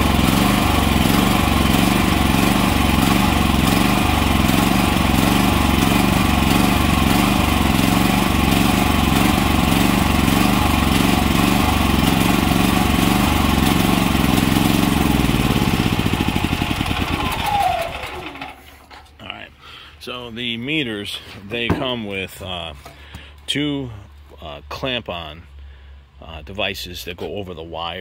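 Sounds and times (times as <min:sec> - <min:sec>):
generator engine running: 0:00.0 - 0:24.3.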